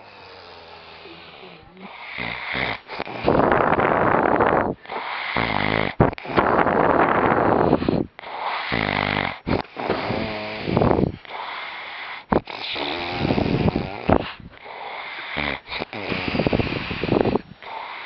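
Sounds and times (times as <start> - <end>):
man fake snoring: 0.0 - 18.0.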